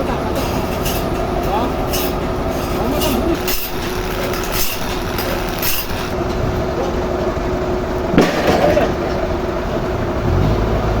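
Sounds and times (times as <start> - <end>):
sawmill machinery droning: 0.0 - 10.9.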